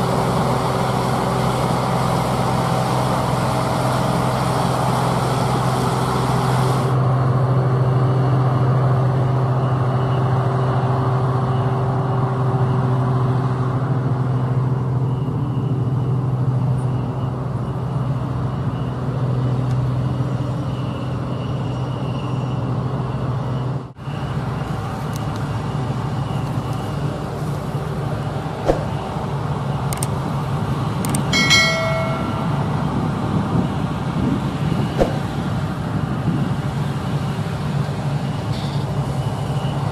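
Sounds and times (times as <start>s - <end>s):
diesel engines humming: 0.0s - 39.9s.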